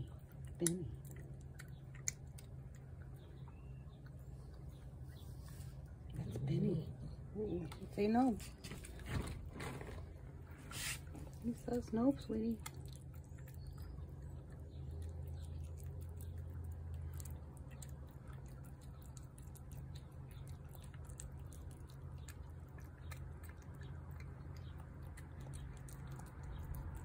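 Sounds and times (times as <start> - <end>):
cat chewing wet food: 0.0 - 6.1, 10.0 - 27.0.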